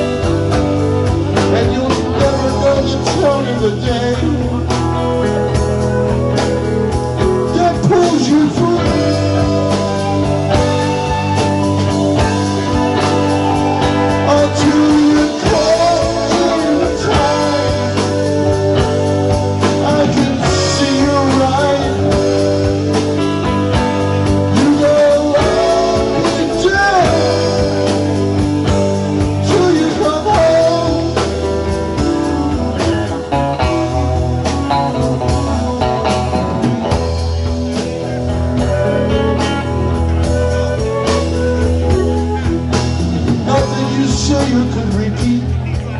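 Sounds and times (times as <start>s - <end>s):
live band playing: 0.0s - 45.9s
person singing: 0.0s - 45.9s.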